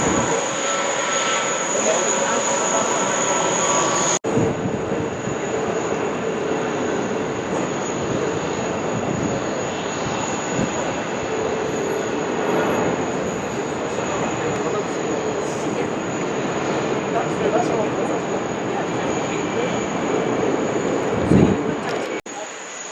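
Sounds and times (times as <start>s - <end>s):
jet engine rumble: 0.0s - 22.9s.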